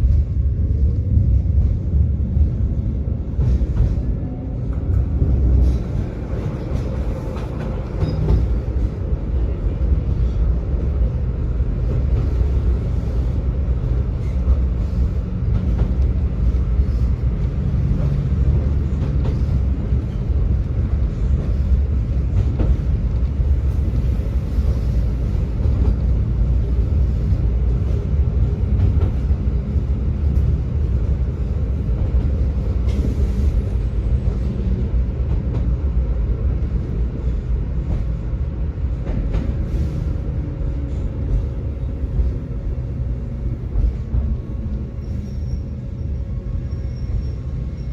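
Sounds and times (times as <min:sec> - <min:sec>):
tram motor hum: 0:00.0 - 0:47.9
tram wheels rumbling on rails: 0:00.0 - 0:47.9.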